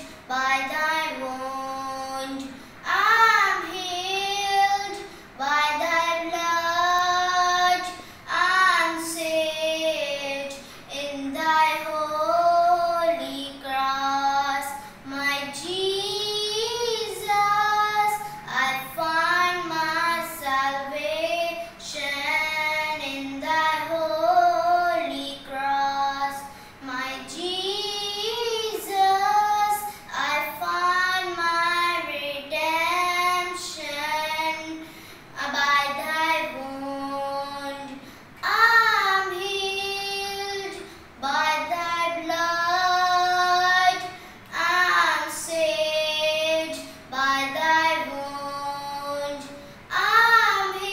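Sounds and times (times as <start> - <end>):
boy singing unaccompanied: 0.0 - 34.8, 35.4 - 50.9.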